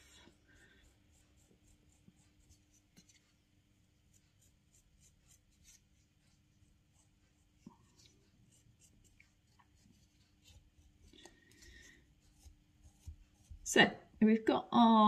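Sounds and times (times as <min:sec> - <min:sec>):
wooden knife scratching clay: 0:00.0 - 0:03.4, 0:04.0 - 0:13.8
low steady hum: 0:00.0 - 0:15.0.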